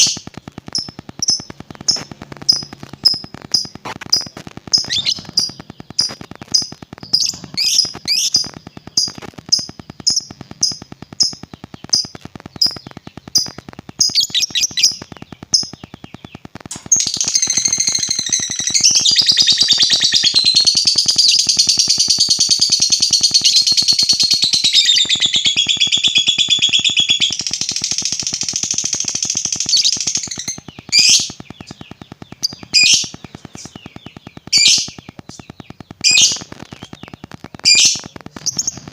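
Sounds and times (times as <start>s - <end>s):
lovebird rattling trill: 0.0s - 16.0s, 16.7s - 38.8s
lovebird chirping: 0.0s - 38.9s.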